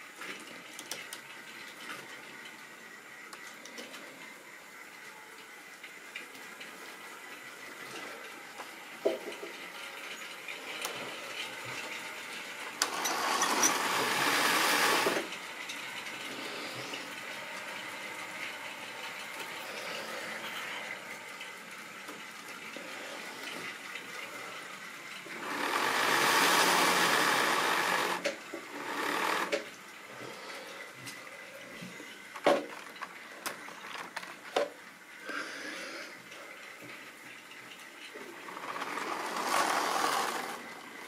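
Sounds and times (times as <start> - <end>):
model trains whirring on track: 0.0 - 41.0.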